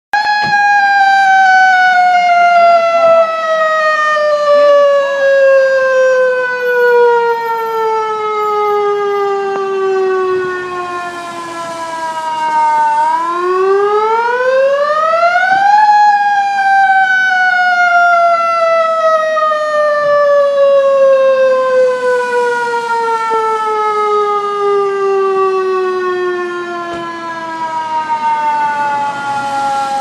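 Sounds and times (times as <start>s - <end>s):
alarm siren wailing: 0.1s - 30.0s.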